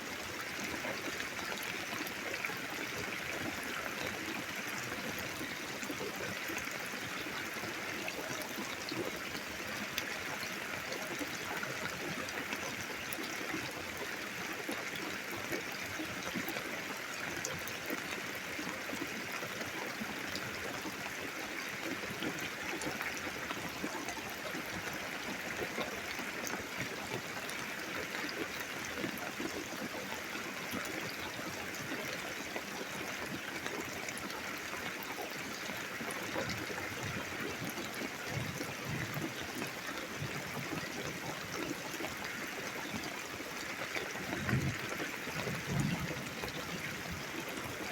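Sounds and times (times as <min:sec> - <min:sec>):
steady rain falling: 0:00.1 - 0:47.9.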